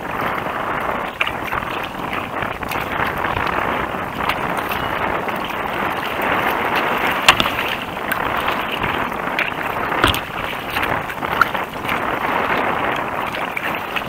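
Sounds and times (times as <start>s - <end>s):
water slapping hull: 0.0s - 14.0s
water splashing against kayak: 0.0s - 14.0s
wind on microphone: 0.0s - 14.0s.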